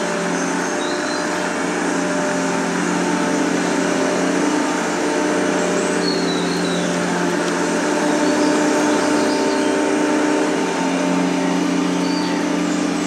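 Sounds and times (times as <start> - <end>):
droning hum of held tones: 0.0 - 13.0.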